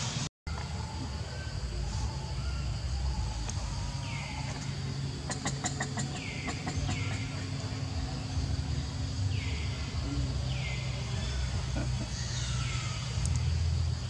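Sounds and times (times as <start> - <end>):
steady low rumble: 0.0 - 14.0
birds chirping: 0.5 - 14.0.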